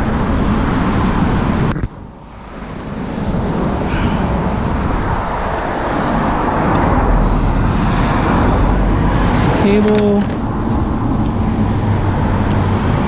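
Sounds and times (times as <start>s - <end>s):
road traffic roar: 0.0s - 13.0s.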